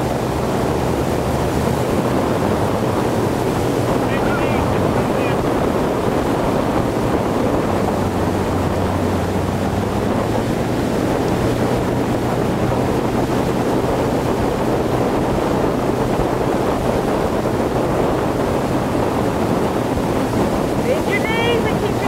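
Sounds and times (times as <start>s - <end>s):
boat engine humming: 0.0s - 22.0s
rush of water spray: 0.0s - 22.0s
wind buffeting microphone: 0.0s - 22.0s.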